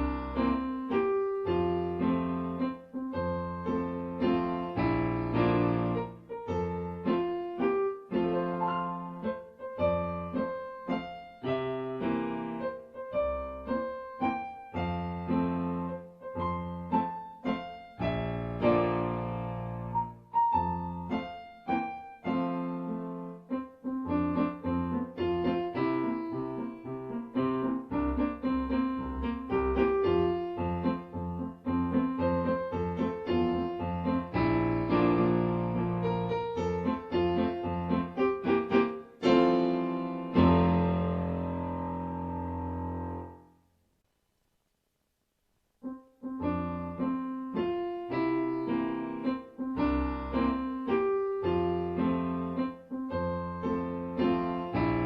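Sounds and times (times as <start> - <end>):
solo piano music: 0.0 - 43.8, 45.8 - 55.0.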